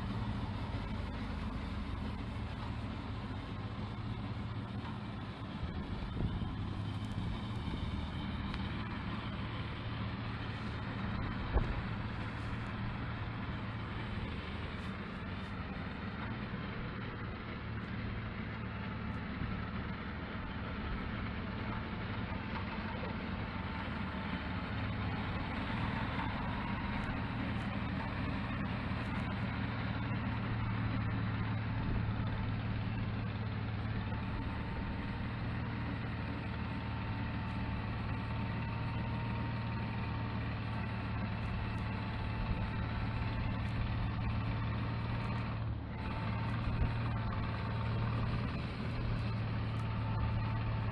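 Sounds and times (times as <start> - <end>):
snowblower engine running: 0.0 - 50.9.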